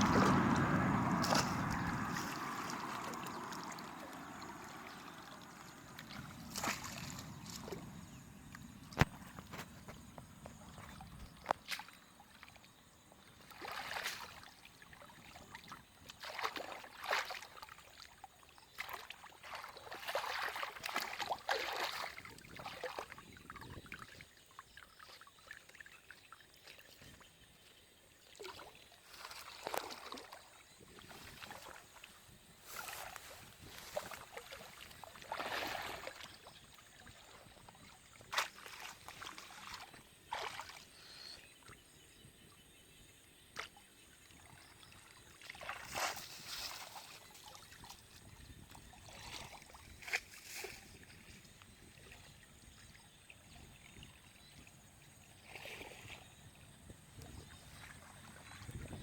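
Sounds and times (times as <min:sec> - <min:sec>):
shallow water splashing: 0:00.0 - 0:42.0, 0:43.6 - 0:59.0.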